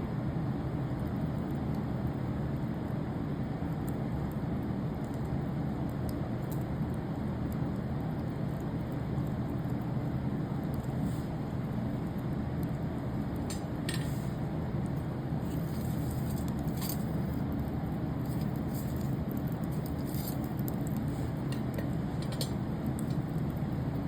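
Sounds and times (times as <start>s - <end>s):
campfire burning: 0.0s - 24.0s
wood crackling and popping: 0.0s - 24.0s.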